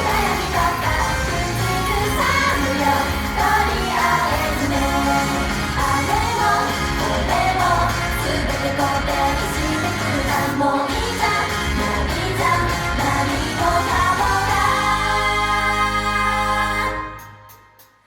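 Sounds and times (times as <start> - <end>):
person singing: 0.0 - 17.4
loud pop music with bass: 0.0 - 17.6.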